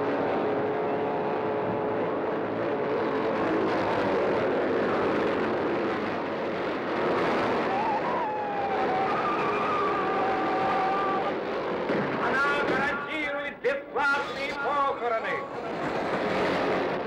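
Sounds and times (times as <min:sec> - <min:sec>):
racing car engines: 0:00.0 - 0:12.8, 0:13.5 - 0:17.0.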